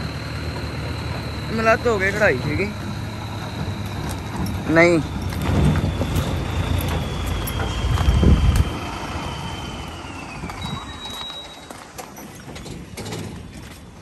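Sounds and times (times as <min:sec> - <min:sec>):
tractor engine rumble: 0:00.0 - 0:14.0.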